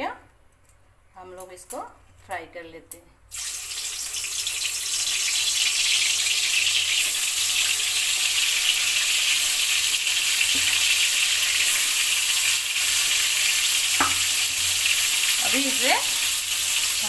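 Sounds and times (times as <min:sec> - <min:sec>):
slices sizzling in hot oil: 0:03.3 - 0:17.0.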